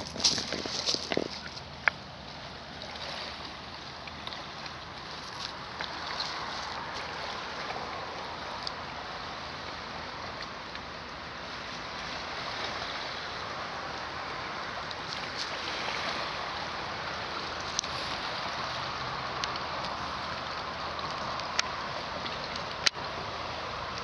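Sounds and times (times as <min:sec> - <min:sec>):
waves lapping against stones: 0:00.0 - 0:24.0.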